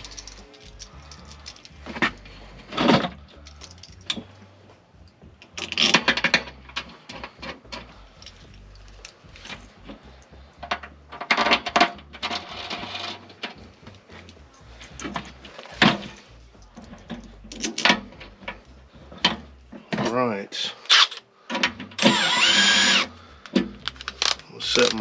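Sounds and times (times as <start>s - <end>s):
metallic clinks and rattles: 0.0s - 20.2s, 23.0s - 25.0s
handling noise: 0.0s - 20.3s.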